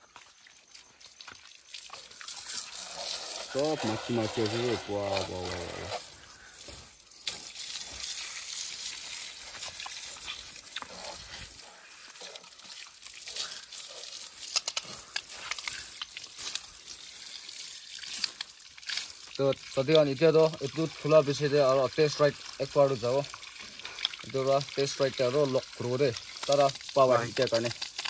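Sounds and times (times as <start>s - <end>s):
hose water spattering on metal: 1.5s - 28.0s.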